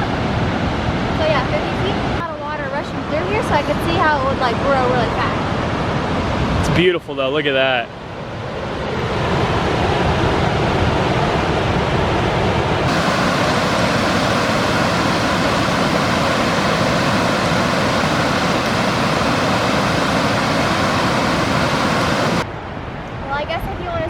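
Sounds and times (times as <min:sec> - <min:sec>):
large waterfall roaring: 0:00.0 - 0:24.0.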